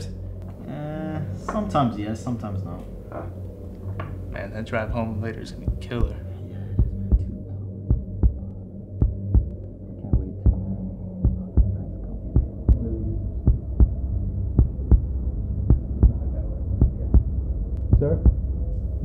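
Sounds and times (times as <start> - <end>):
low droning hum: 0.0 - 19.0
heartbeat thumps: 3.1 - 19.0.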